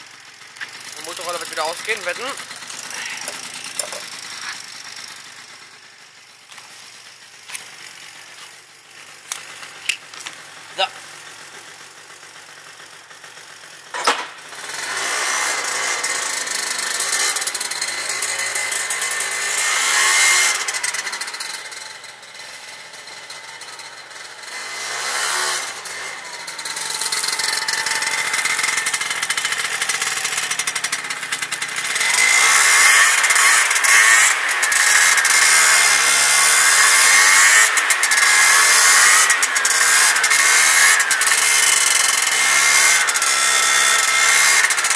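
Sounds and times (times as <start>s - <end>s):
scooter engine revving: 0.0s - 44.9s.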